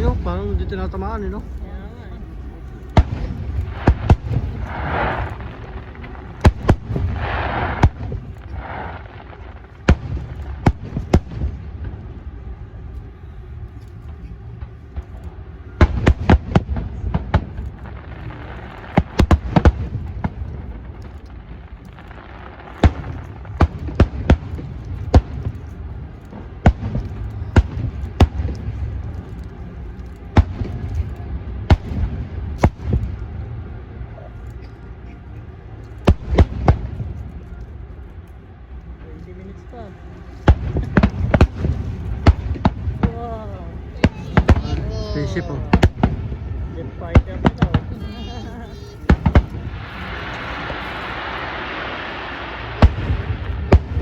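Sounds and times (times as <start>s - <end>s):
fireworks bangs: 0.0s - 54.0s
low rumble: 0.0s - 54.0s.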